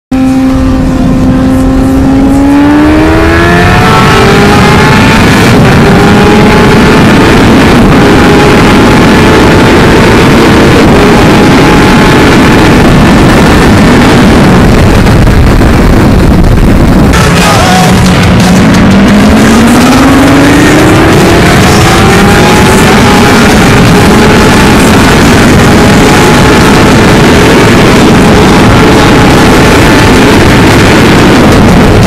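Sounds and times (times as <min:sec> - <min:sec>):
motorcycle engine revving: 0:00.1 - 0:32.0
wind rush on microphone: 0:00.1 - 0:32.0.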